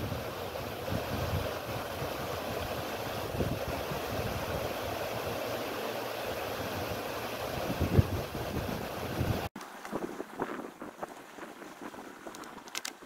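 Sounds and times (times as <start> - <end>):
wind rumbling on microphone: 0.0 - 5.4, 6.3 - 13.0
water rushing from culvert: 0.0 - 12.8.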